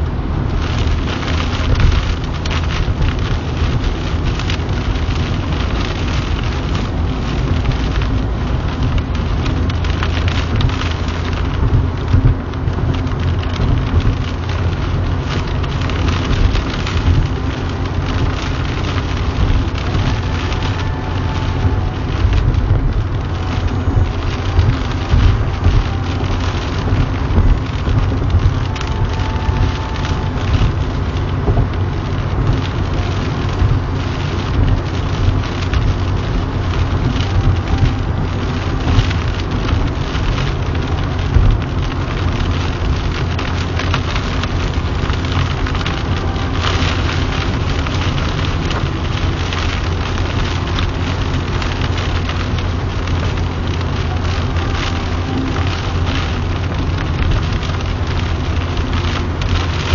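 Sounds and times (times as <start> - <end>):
heavy rain on car roof: 0.0 - 59.9
road and engine rumble: 0.0 - 59.9.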